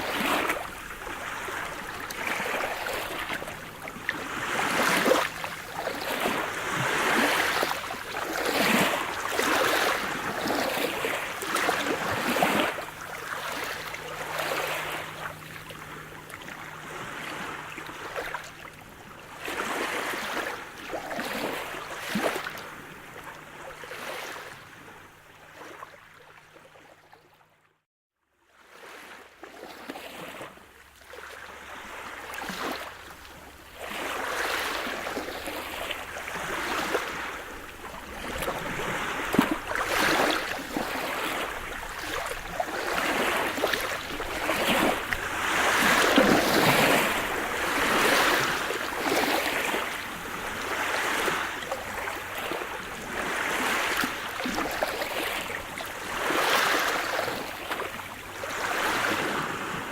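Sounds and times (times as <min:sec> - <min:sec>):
waves breaking on shore: 0:00.0 - 0:26.2, 0:28.6 - 0:59.9.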